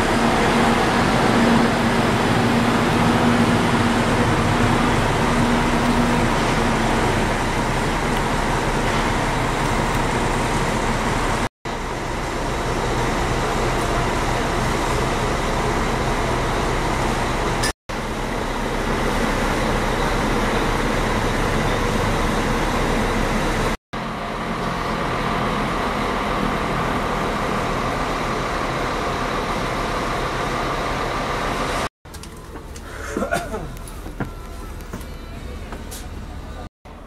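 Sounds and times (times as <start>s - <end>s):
diesel coach engine running: 0.0s - 37.0s.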